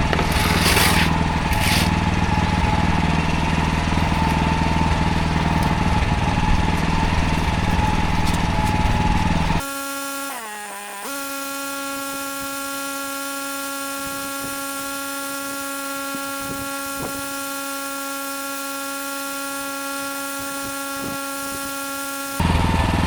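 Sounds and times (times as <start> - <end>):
pressure washer humming: 0.0 - 23.0.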